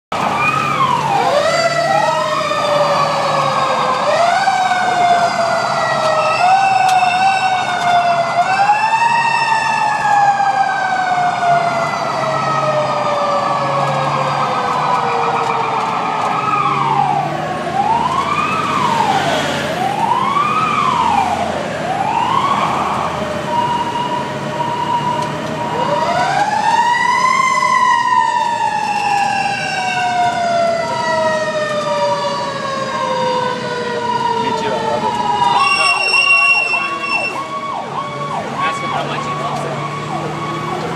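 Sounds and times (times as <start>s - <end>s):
fire truck sirens wailing: 0.1s - 40.9s.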